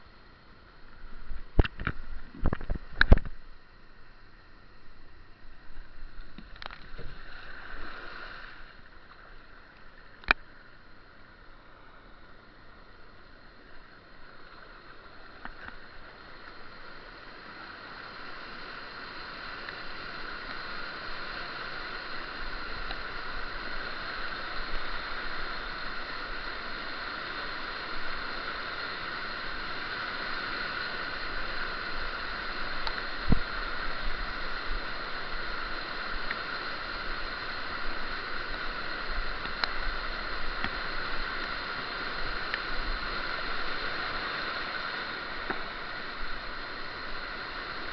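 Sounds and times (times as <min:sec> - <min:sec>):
brook water rushing: 0:00.0 - 0:47.9.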